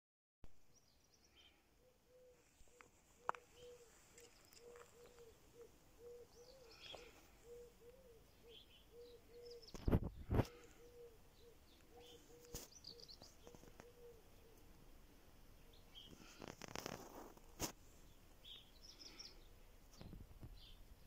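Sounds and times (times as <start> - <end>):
small birds chirping: 0.6 - 21.0.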